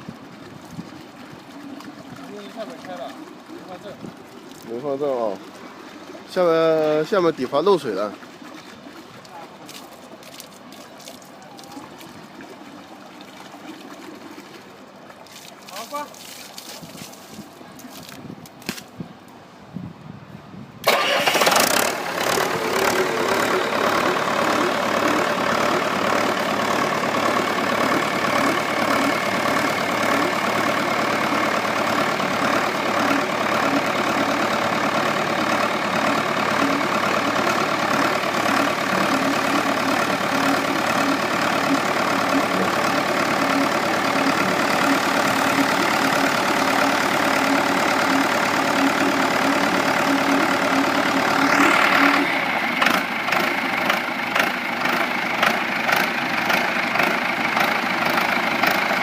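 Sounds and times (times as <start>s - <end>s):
diesel pump engine running: 0.0s - 19.7s, 20.8s - 59.0s.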